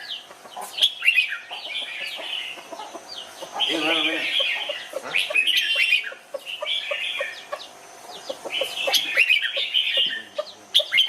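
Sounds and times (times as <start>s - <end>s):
bird warbling song: 0.0s - 11.0s.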